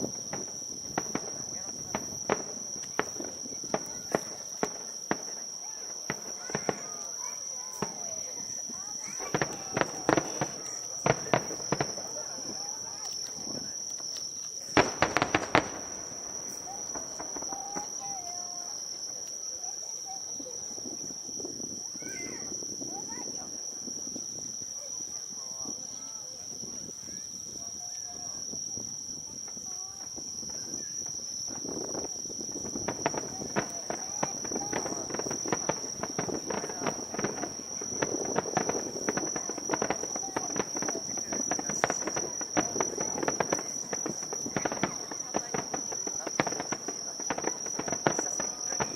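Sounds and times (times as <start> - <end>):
firework cracks: 0.0 - 21.0, 29.6 - 48.9
crickets trilling: 0.0 - 48.9
murmur of crowd voices: 1.0 - 48.9.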